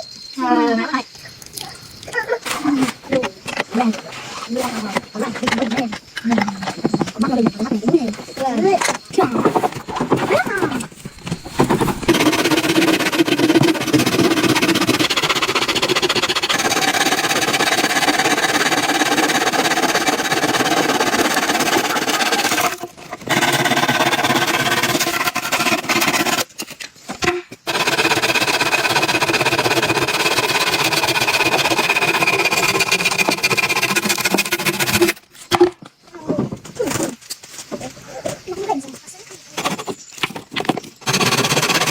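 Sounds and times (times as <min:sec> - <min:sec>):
small motor rattling and whining: 0:01.2 - 0:35.3, 0:39.5 - 0:41.9.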